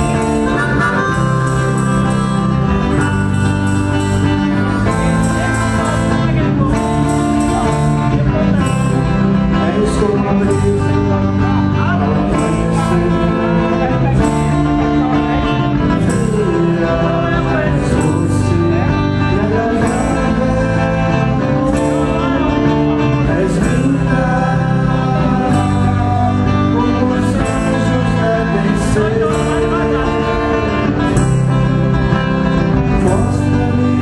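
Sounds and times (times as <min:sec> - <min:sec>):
band playing live: 0:00.0 - 0:34.0
plucked guitar: 0:00.0 - 0:34.0.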